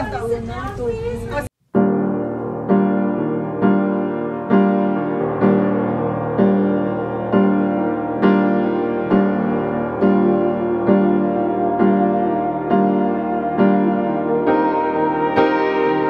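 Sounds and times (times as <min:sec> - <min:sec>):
slow piano chords: 0:01.8 - 0:16.0.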